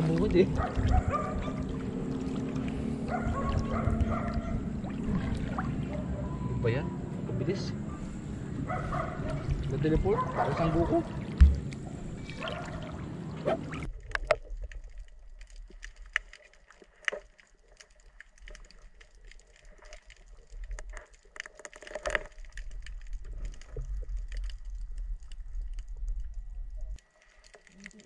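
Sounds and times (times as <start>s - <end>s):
underwater clicks and gurgles: 0.0s - 6.4s, 7.9s - 28.0s
water sloshing and splashing: 0.0s - 7.2s, 8.0s - 28.0s
muffled underwater rumble: 0.0s - 21.4s, 22.0s - 28.0s.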